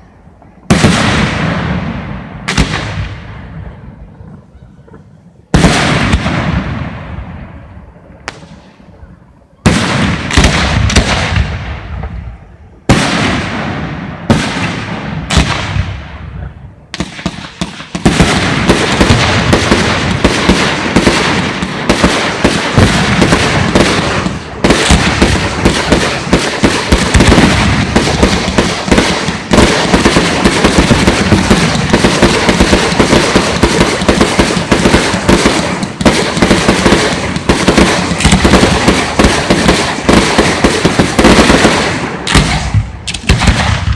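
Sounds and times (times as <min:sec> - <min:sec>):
rapid firework bangs and crackling: 0:00.0 - 0:43.9.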